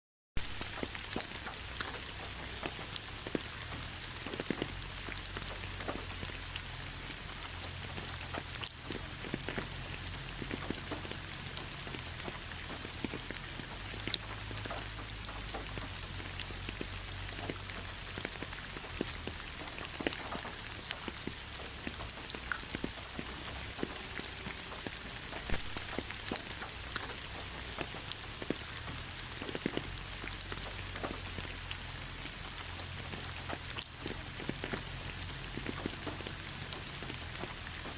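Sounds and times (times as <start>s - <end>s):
rain falling on leaves: 0.4s - 37.9s.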